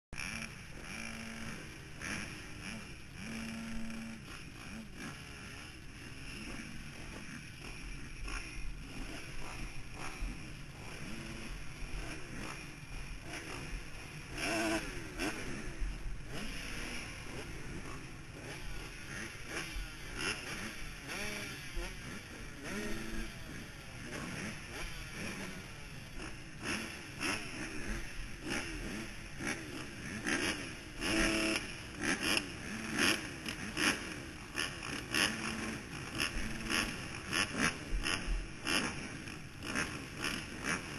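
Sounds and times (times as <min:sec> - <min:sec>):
motorcycle engines revving: 0:00.2 - 0:40.9.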